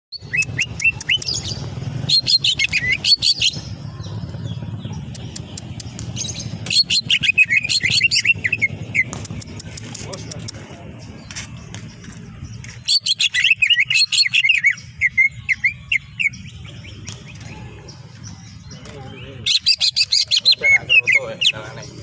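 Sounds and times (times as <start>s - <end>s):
bird chirping rapidly: 0.1s - 22.0s.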